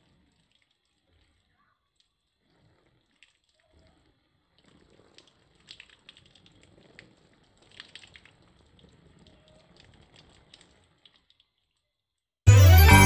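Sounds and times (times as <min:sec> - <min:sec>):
faint water dripping: 0:00.0 - 0:12.0.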